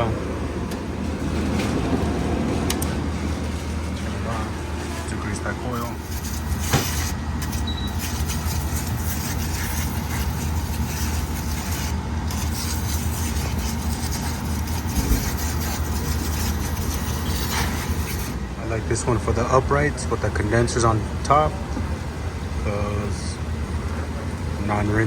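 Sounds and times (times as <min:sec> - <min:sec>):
freezer hum with fan noise: 0:00.0 - 0:25.0.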